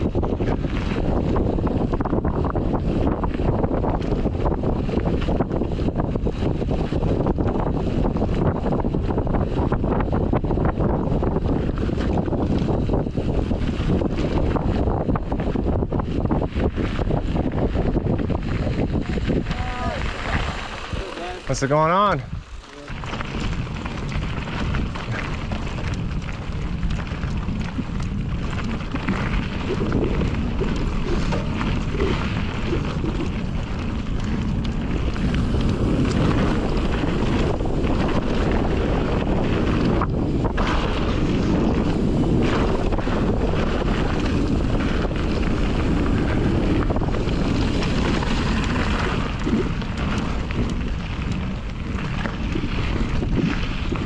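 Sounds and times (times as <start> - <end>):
bike clicks and rattles: 0.0 - 54.0
bike tyres rolling on dirt: 0.0 - 54.0
wind buffeting microphone: 0.0 - 54.0.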